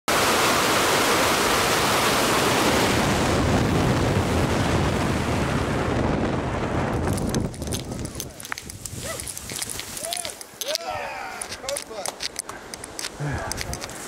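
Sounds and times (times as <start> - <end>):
wind buffeting microphone: 2.6 - 14.0.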